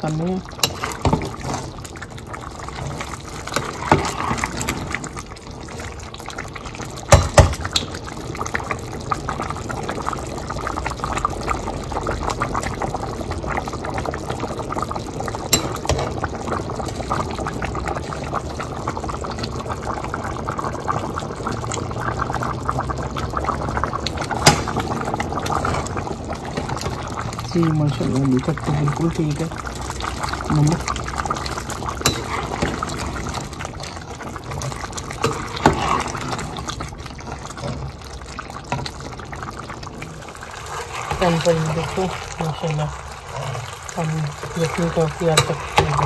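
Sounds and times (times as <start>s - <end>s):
broth boiling and bubbling: 0.0s - 46.0s.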